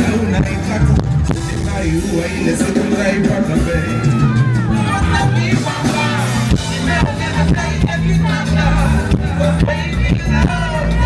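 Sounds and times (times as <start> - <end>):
loud live band music: 0.0 - 11.0
person singing: 0.0 - 11.0.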